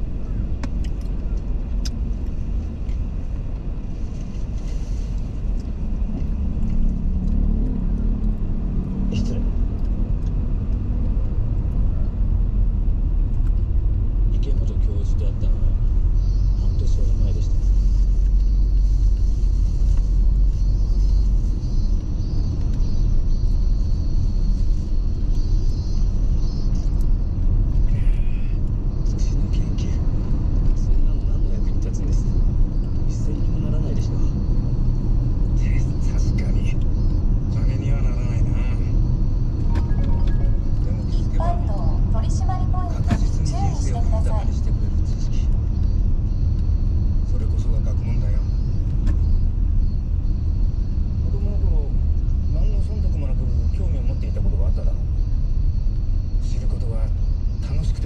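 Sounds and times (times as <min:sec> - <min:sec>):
car cabin low rumble: 0:00.0 - 0:58.0.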